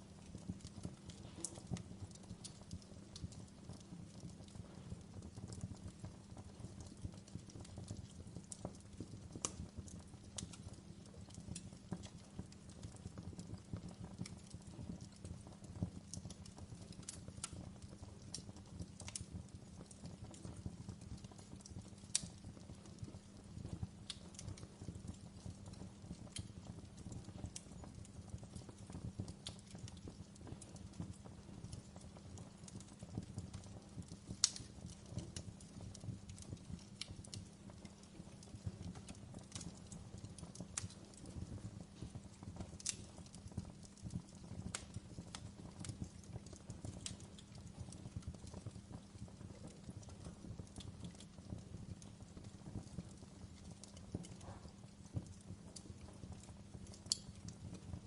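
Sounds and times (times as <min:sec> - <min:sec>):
fire crackling and popping: 0:00.0 - 0:58.0
fire rumbling: 0:00.0 - 0:58.0.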